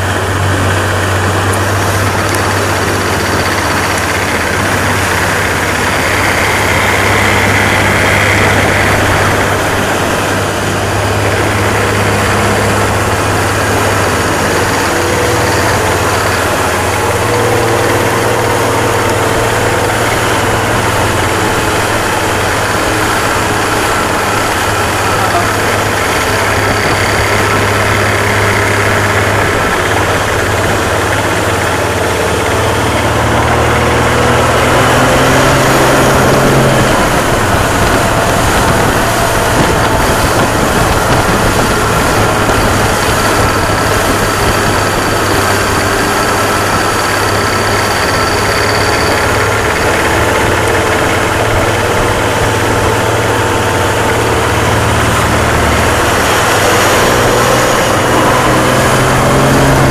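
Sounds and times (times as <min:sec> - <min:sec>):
boat engine running: 0:00.0 - 0:59.9
wake water rushing: 0:00.0 - 0:59.9.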